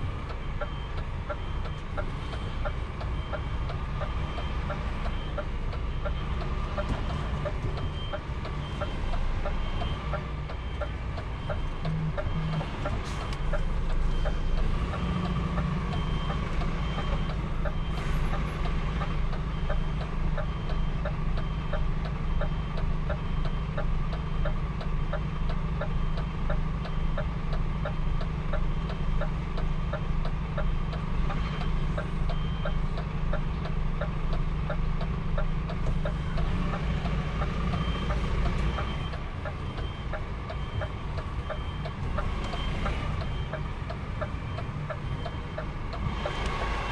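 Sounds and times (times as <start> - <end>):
truck engine humming: 0.0 - 46.9
truck reversing alarm beeps: 0.0 - 46.9.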